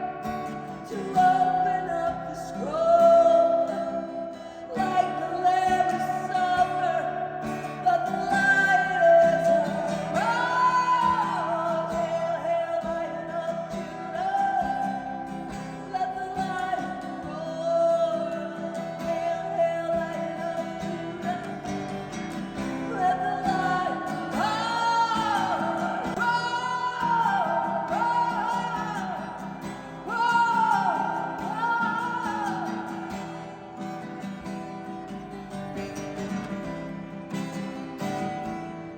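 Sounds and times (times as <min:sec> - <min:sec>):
worship song with band: 0:00.0 - 0:33.6.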